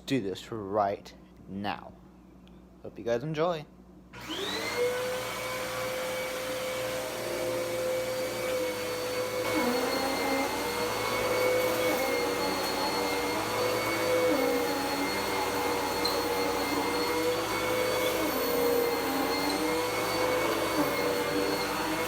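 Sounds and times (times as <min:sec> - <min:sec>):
vacuum cleaner motor whine: 0:04.2 - 0:22.0.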